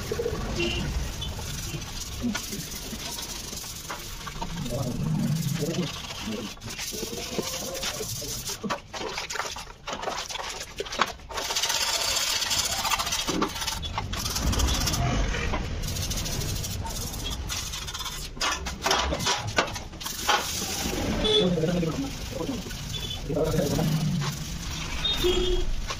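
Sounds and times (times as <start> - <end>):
sandpaper rubbing: 0.0 - 18.6, 20.0 - 25.9.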